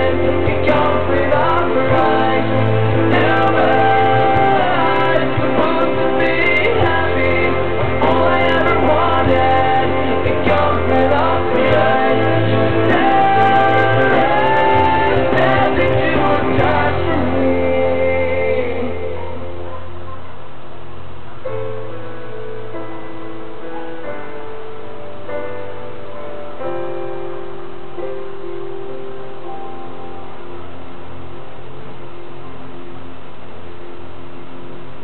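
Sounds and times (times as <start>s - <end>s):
recorded backing track: 0.0s - 35.0s.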